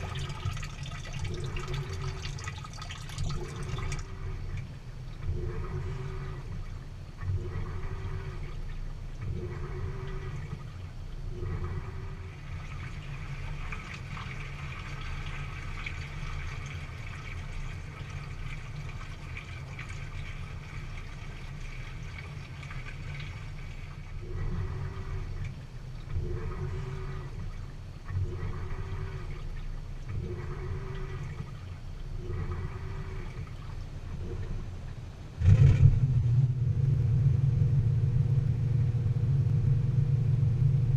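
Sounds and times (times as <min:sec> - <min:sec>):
water sloshing in washer tub: 0:00.0 - 0:37.0
washer motor hum: 0:00.0 - 0:40.9.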